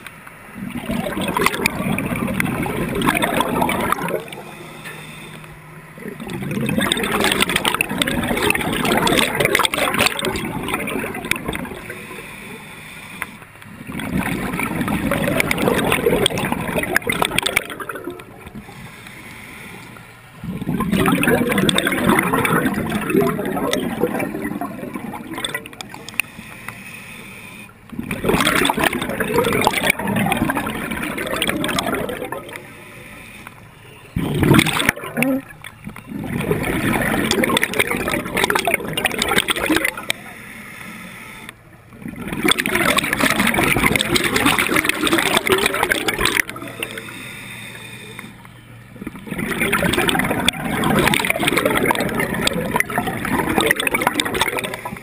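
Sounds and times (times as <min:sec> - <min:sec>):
gurgling regulator bubbles: 0:00.0 - 0:55.0.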